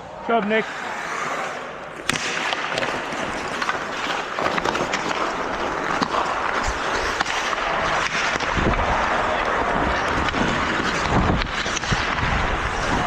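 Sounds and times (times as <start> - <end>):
hockey sticks and puck clacking: 0.0 - 13.0
skates scraping ice: 0.0 - 13.0.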